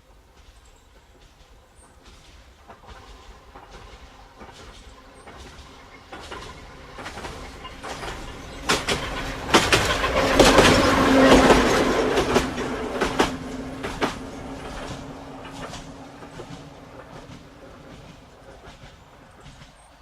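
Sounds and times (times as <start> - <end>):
electric railcar passing: 0.0 - 20.0
wheels clicking over rail joints: 0.2 - 20.0.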